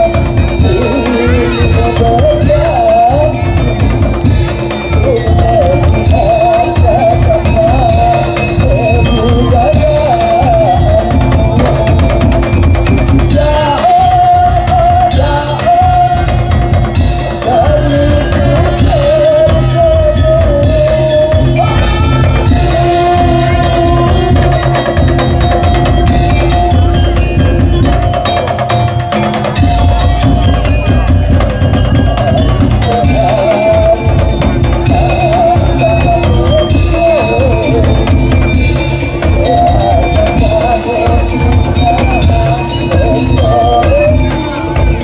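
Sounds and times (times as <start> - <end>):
heavy drums beating: 0.0 - 45.0
wavering ornamented melody: 0.0 - 45.0.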